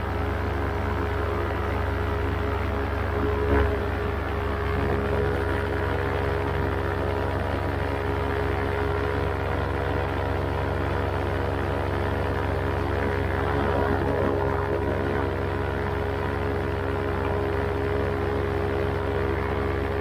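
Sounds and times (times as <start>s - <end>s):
paramotor engine droning: 0.0s - 20.0s.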